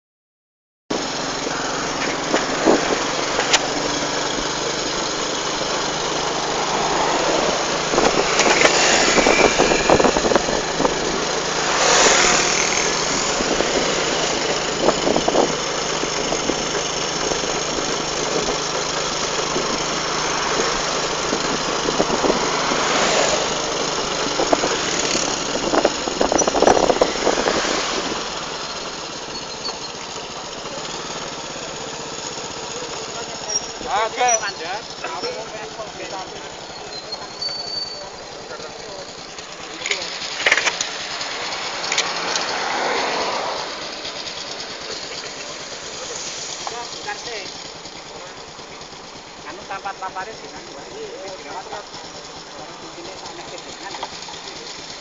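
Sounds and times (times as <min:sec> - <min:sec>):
motorcycle engine running: 0:00.9 - 0:55.0
wind and road noise: 0:00.9 - 0:55.0.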